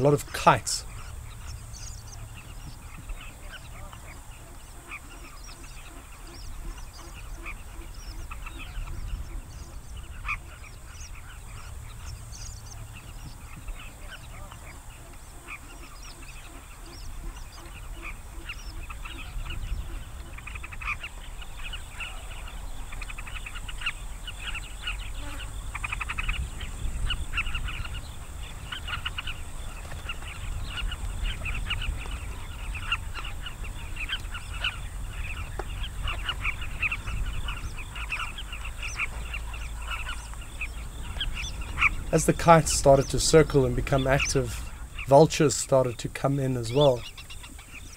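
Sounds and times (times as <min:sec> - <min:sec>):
steady low rumble: 0:00.0 - 0:47.4
flock of birds calling: 0:00.0 - 0:47.9.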